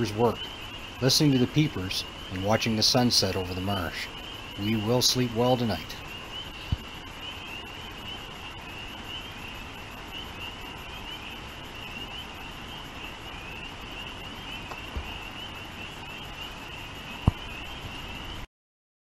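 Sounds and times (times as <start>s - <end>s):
spring peepers calling: 0.0s - 18.5s.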